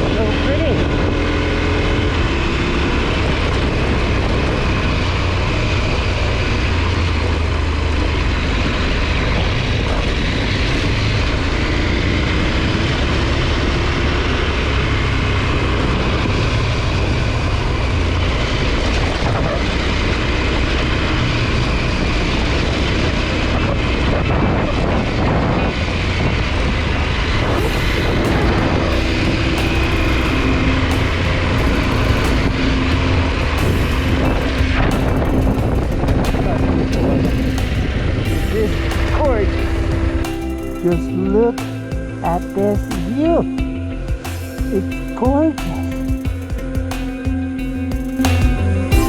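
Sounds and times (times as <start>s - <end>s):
motorcycle engine rumbling: 0.0s - 49.0s.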